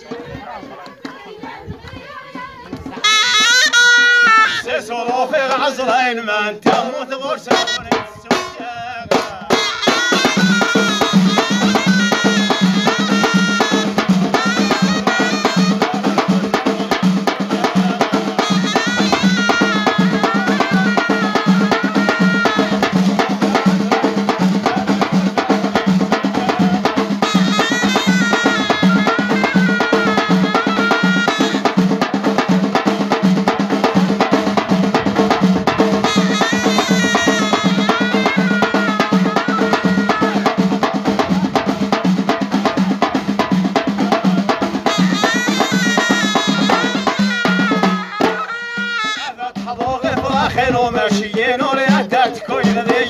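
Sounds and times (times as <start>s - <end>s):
hand frame drums: 0.0s - 6.0s, 6.6s - 53.0s
reedy shawm melody: 2.3s - 5.2s, 7.4s - 8.6s, 9.4s - 49.9s
stick-beaten side drum: 6.6s - 53.0s.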